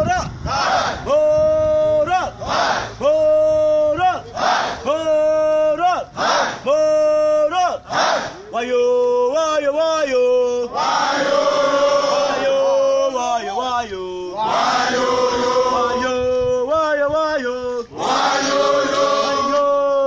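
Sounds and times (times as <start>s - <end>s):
men singing a chant: 2.0s - 20.0s.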